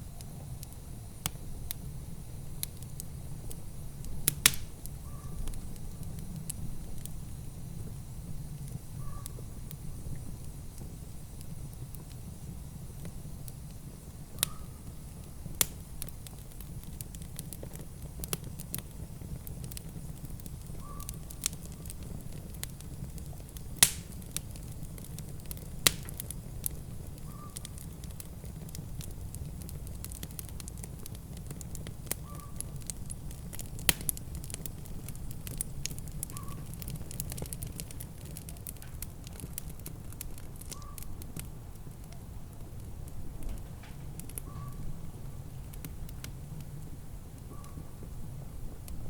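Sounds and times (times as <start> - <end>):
wood fire crackling: 0.0 - 49.0
sharp fire pops: 0.1 - 49.0.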